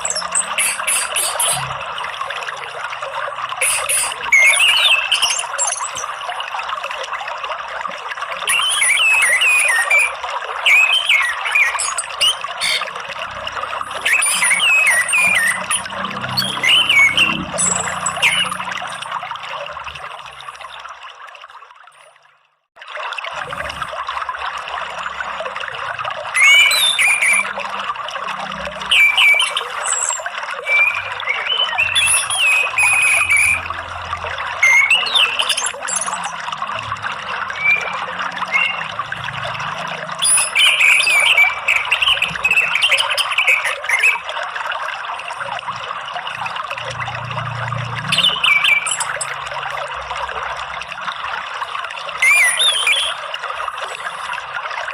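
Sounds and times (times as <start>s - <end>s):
running water flowing: 0.0s - 54.9s.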